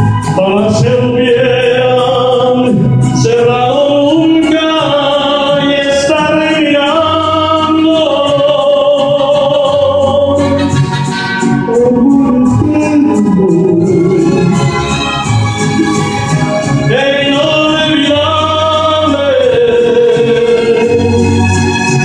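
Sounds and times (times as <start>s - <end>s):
man singing into microphone: 0.0s - 15.2s, 15.8s - 22.0s
accompanying music: 0.0s - 22.0s.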